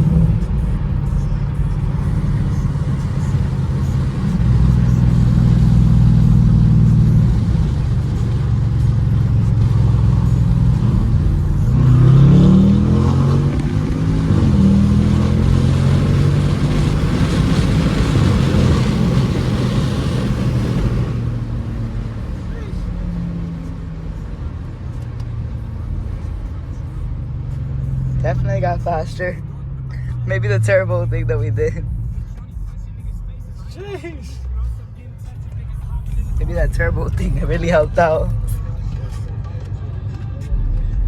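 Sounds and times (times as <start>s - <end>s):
car engine droning from inside cabin: 0.0s - 41.0s.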